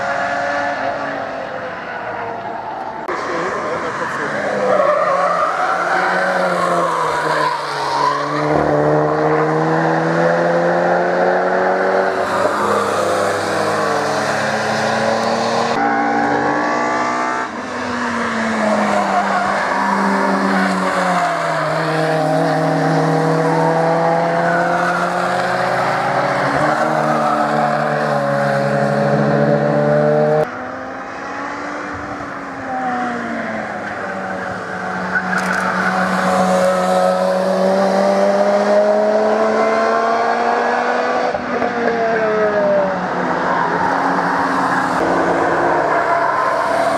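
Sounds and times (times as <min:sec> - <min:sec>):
car engines revving past: 0:00.0 - 0:46.9.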